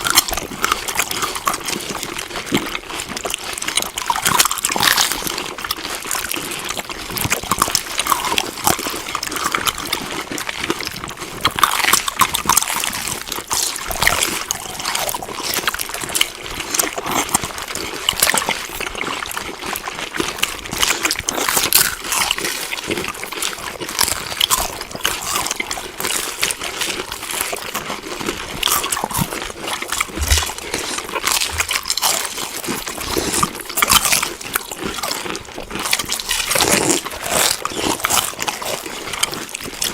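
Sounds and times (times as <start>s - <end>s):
chewing food: 0.0s - 39.9s.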